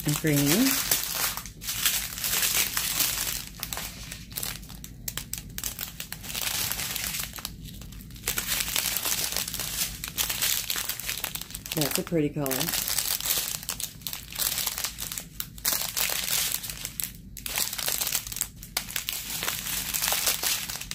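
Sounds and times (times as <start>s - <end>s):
plastic bags crinkling: 0.0s - 20.9s.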